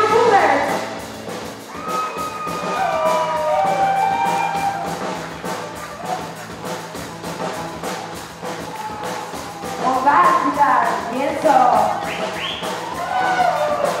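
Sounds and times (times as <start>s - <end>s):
bass line: 0.0s - 14.0s
drums beating: 0.0s - 14.0s
live rockabilly band playing: 0.0s - 14.0s.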